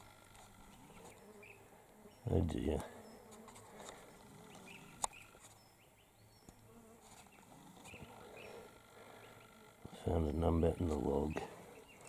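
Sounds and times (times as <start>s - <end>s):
faint insect buzz: 0.0s - 5.8s, 6.4s - 12.0s.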